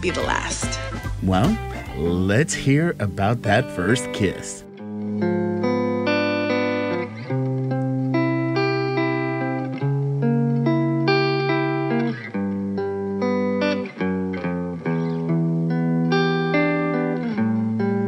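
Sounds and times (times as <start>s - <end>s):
clean electric guitar chords: 1.1s - 18.0s.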